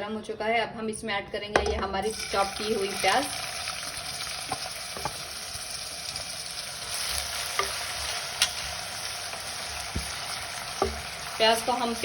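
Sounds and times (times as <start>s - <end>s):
onions sizzling in hot oil: 2.1s - 12.0s.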